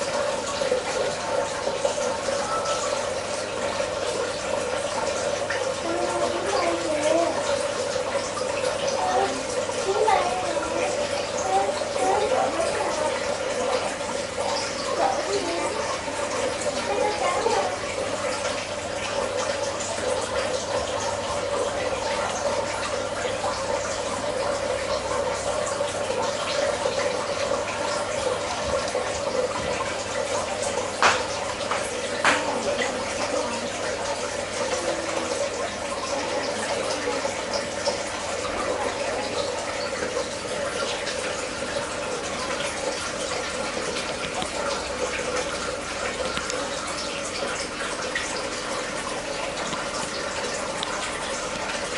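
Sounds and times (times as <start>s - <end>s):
aquarium water running: 0.0s - 51.9s.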